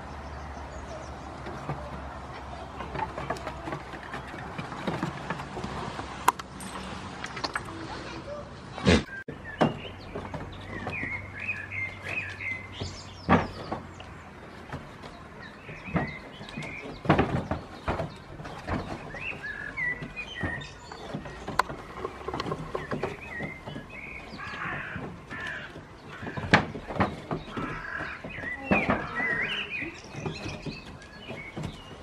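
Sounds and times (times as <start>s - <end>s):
small birds chirping: 0.0s - 5.8s, 6.6s - 32.0s
knocks and clatter on wood: 1.3s - 7.7s, 9.3s - 32.0s.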